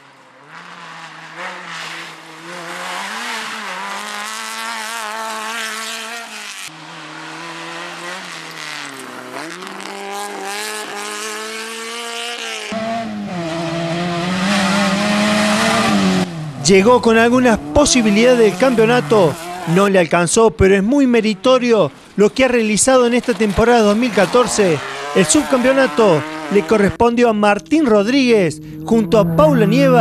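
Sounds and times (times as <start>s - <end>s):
buggy engines revving: 0.0s - 30.0s.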